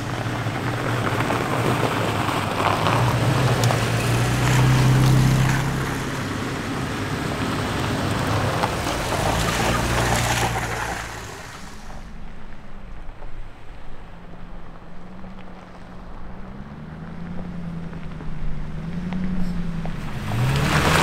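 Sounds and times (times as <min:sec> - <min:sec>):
engine low drone: 0:00.0 - 0:21.0.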